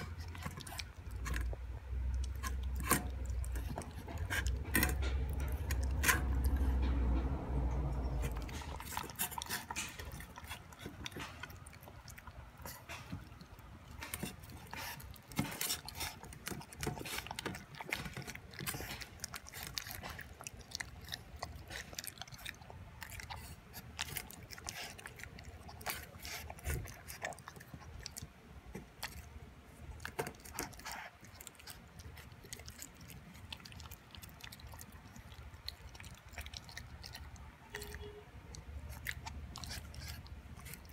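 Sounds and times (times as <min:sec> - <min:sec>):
puppy chewing and licking: 0:00.0 - 0:40.9.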